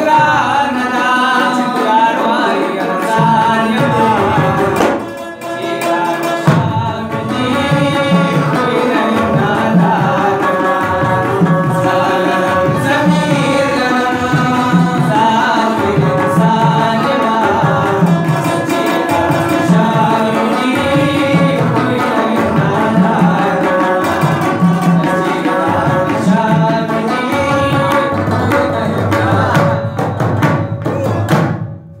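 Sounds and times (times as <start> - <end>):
plucked rabab melody: 0.0 - 32.0
steady drum beat: 3.1 - 31.8.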